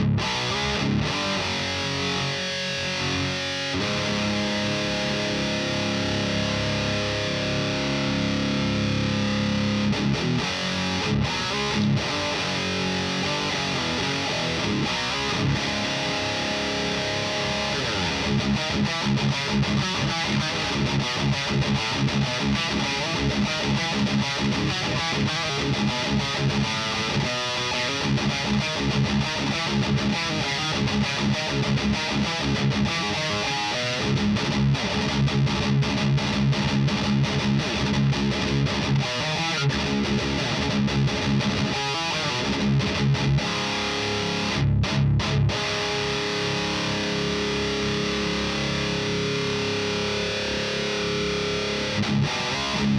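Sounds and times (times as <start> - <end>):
distorted electric guitar riffing: 0.0 - 52.9.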